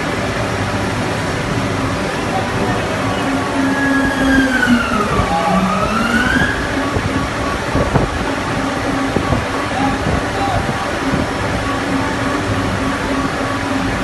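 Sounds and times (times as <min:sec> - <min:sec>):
machine mechanical drone: 0:00.0 - 0:14.0
machine whining tone: 0:00.0 - 0:14.0.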